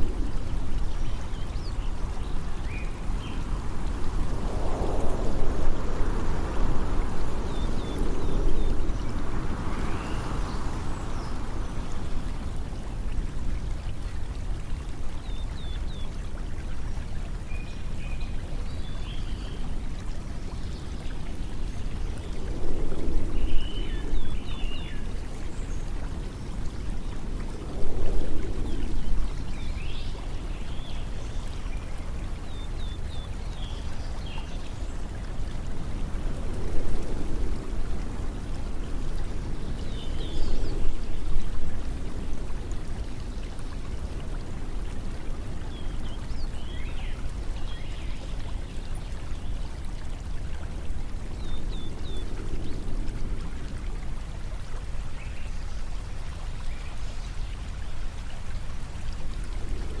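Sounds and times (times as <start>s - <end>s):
flowing water rushing: 0.0s - 60.0s.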